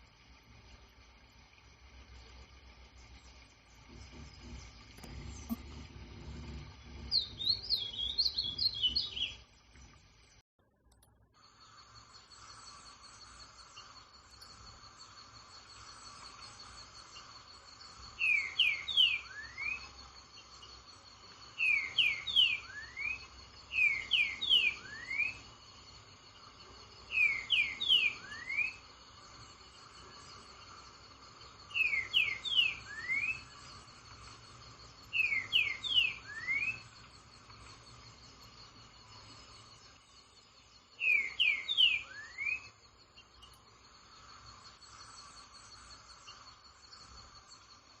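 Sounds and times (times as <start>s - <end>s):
insects droning: 0.0s - 10.4s, 11.2s - 48.0s.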